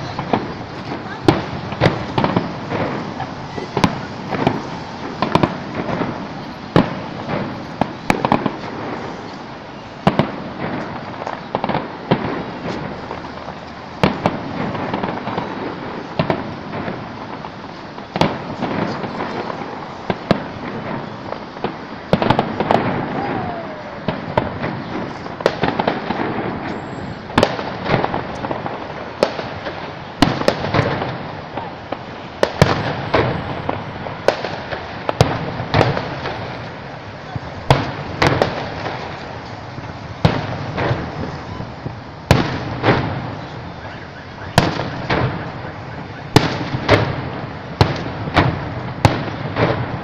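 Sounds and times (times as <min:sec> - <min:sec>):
distant fireworks crackling: 0:00.0 - 0:50.0
firework bangs: 0:00.0 - 0:50.0.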